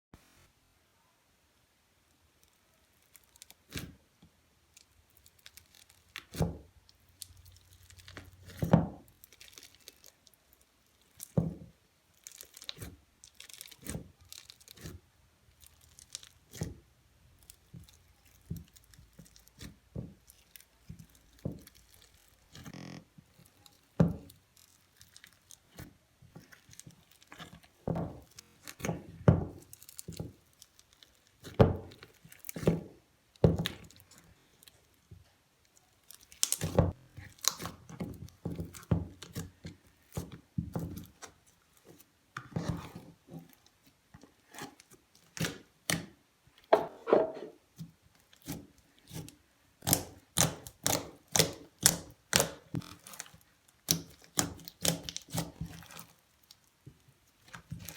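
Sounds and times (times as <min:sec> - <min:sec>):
slime crackling and popping: 0:02.4 - 0:04.0, 0:04.7 - 0:46.2, 0:47.8 - 0:57.9.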